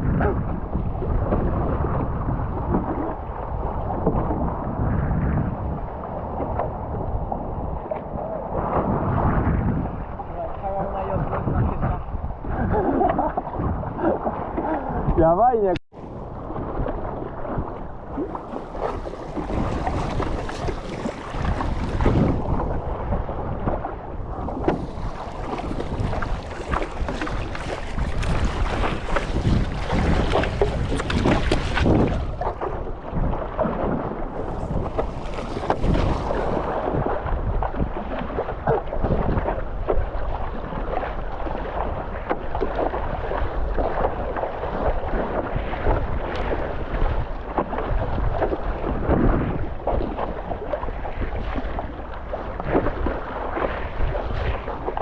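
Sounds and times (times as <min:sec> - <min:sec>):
sea water sloshing and splashing: 0:00.0 - 0:15.2, 0:15.9 - 0:55.0
wind buffeting microphone: 0:00.0 - 0:55.0.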